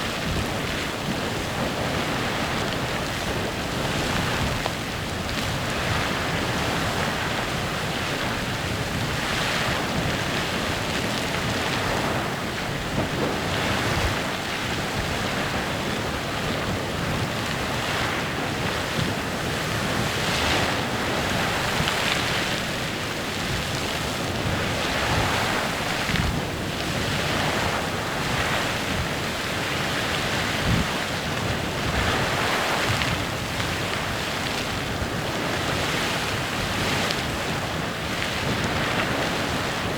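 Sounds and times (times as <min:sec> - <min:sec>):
geyser hissing and splashing: 0:00.0 - 0:39.9.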